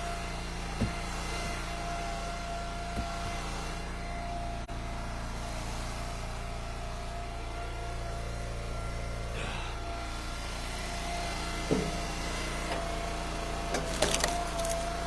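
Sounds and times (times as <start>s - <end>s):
wood splitter engine running: 0.0s - 15.0s.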